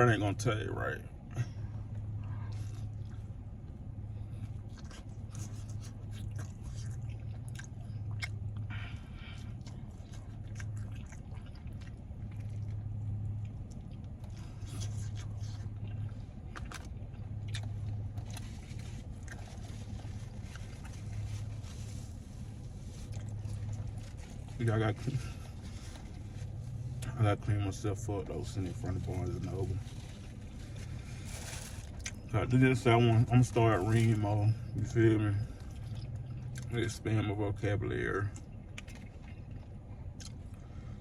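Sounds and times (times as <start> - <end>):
steady low hum: 0.0 - 41.0
close chewing with mouth clicks: 1.3 - 27.2, 28.6 - 32.3, 33.6 - 36.8, 38.2 - 41.0.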